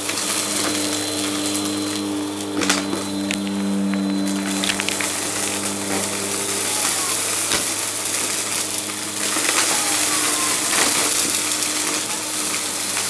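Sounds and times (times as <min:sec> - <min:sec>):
vacuum cleaner running: 0:00.0 - 0:13.0
ticks and rattles of confetti: 0:02.5 - 0:13.0.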